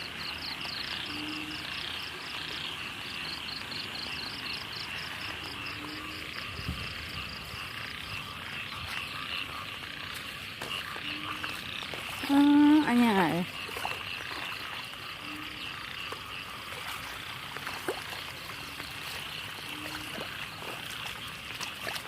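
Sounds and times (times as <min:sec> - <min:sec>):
frogs trilling: 0:00.0 - 0:22.0
short low frog calls: 0:00.0 - 0:22.0.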